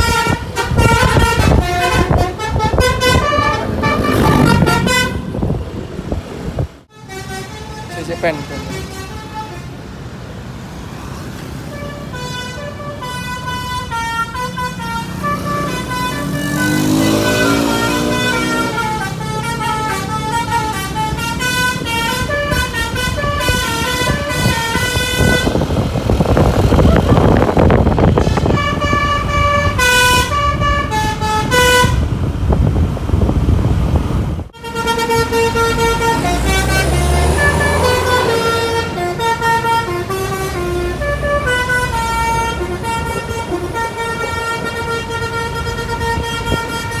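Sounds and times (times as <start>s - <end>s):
multi-tone air horn melody: 0.0s - 5.6s, 6.9s - 9.8s, 11.7s - 32.1s, 34.5s - 47.0s.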